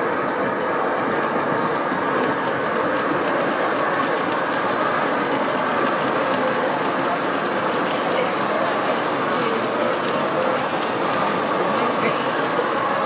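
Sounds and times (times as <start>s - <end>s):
large hall background noise: 0.0s - 13.0s.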